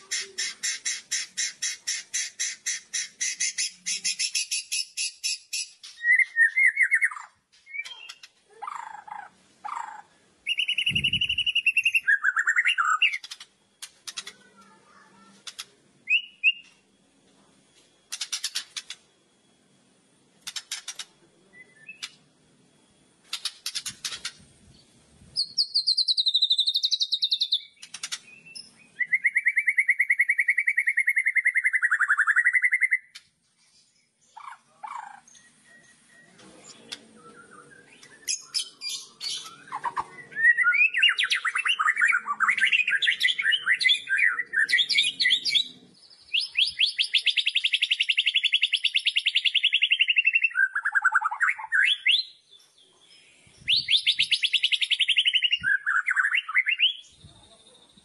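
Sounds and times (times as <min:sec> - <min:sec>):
bird singing rattling trills: 0:00.0 - 0:14.5, 0:18.1 - 0:19.0, 0:23.2 - 0:33.1, 0:34.0 - 0:58.0.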